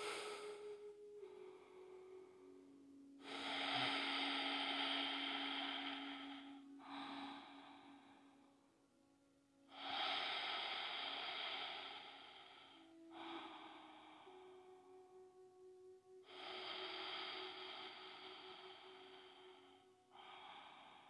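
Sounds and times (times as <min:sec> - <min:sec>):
woman breathing deeply: 0:00.0 - 0:02.4, 0:03.1 - 0:08.6, 0:09.7 - 0:14.9, 0:16.2 - 0:21.0.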